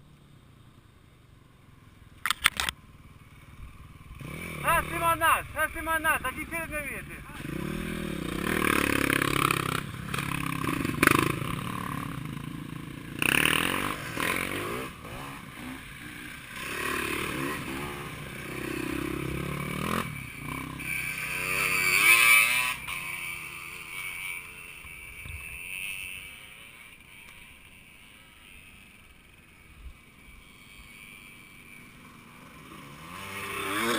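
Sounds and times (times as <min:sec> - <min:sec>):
motocross bike engines revving: 0:02.5 - 0:33.9.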